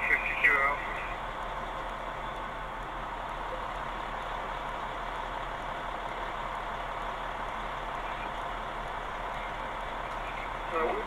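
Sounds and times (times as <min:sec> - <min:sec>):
constant low hum: 0:00.0 - 0:11.0
engine idling: 0:00.0 - 0:11.0.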